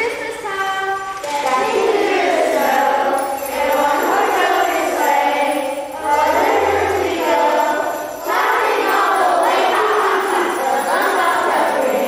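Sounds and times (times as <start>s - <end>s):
children's choir singing: 0.0s - 12.0s.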